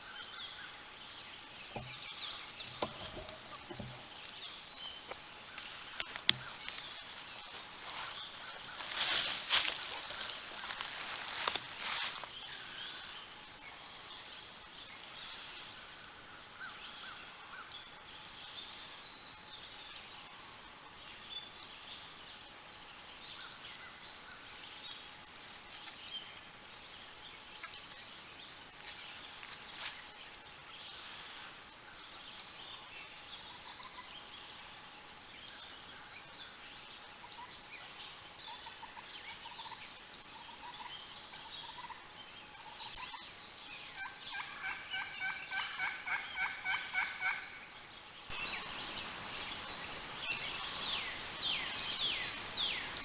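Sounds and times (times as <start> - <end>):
songbirds chirping and singing: 0.0 - 20.1, 22.4 - 53.0
faint steady hum: 0.0 - 53.0.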